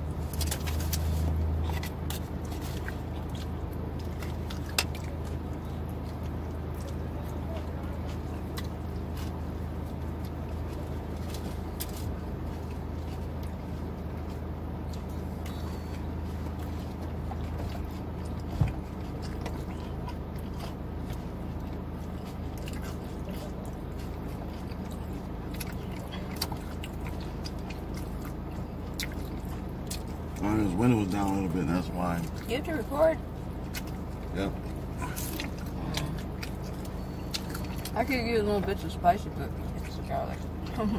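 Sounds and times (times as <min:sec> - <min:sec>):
person chewing food: 0:00.0 - 0:38.0
steady low hum: 0:00.0 - 0:40.9.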